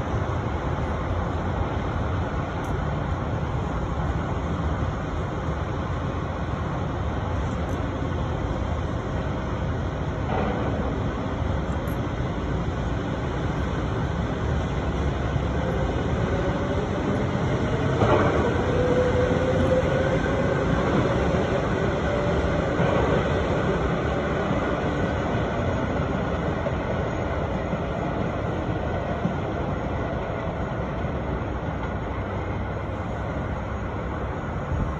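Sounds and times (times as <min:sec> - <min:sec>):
train wheels rumbling: 0:00.0 - 0:34.9.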